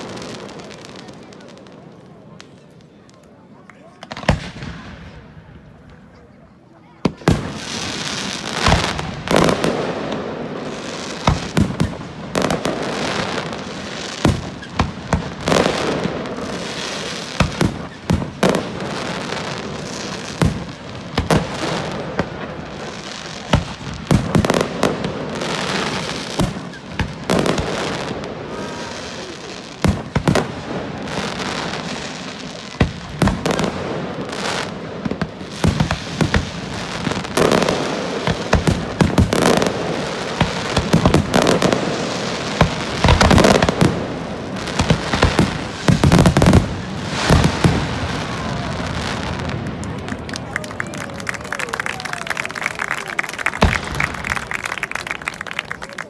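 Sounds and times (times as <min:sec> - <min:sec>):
fireworks bangs: 0:00.0 - 0:56.0
fireworks crackling hiss: 0:00.0 - 0:56.0.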